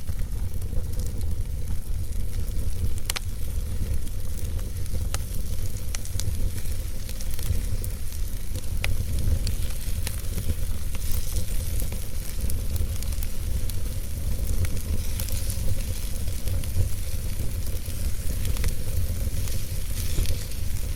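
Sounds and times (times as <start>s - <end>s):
log fire crackling and popping: 0.0s - 20.9s.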